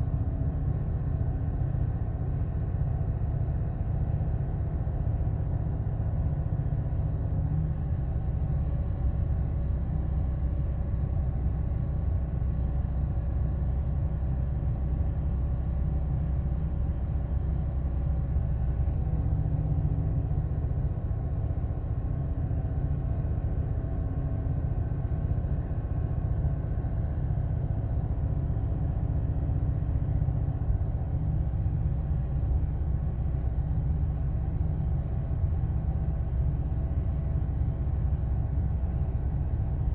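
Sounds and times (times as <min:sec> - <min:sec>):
engine idling with low rumble: 0:00.0 - 0:39.9.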